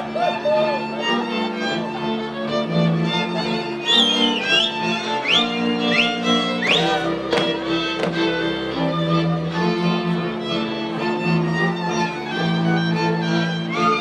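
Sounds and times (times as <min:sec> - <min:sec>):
bowed bass line: 0:00.0 - 0:14.0
fiddles playing lively tune: 0:00.0 - 0:14.0.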